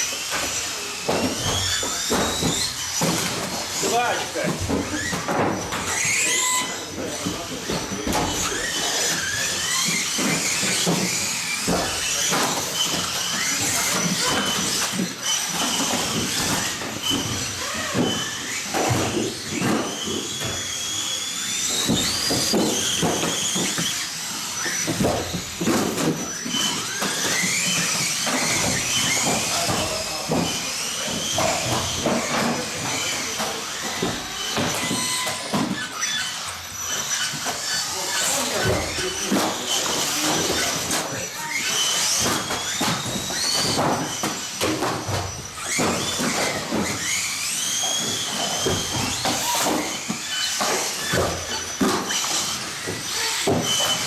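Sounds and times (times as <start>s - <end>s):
toy car electric motors whining: 0.0s - 54.0s.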